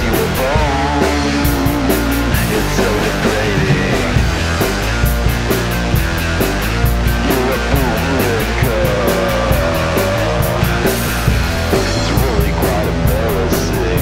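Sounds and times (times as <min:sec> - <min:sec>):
drum kit with cymbals: 0:00.0 - 0:14.0
electric guitar: 0:00.0 - 0:14.0
punk rock song: 0:00.0 - 0:14.0.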